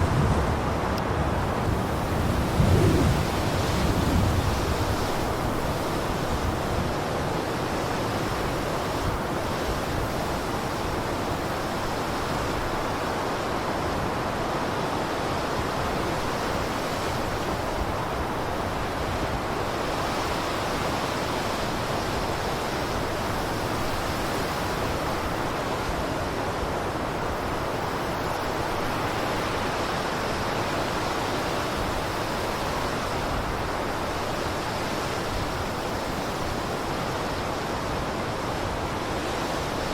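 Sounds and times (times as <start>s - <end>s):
blizzard wind blowing: 0.0s - 39.9s.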